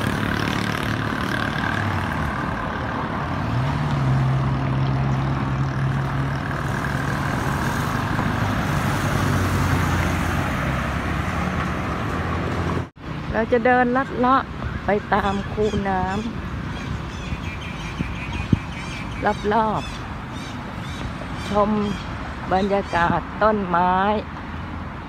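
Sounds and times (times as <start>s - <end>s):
large vehicle engine humming: 0.0s - 25.0s
passing vehicles rushing: 0.0s - 25.0s.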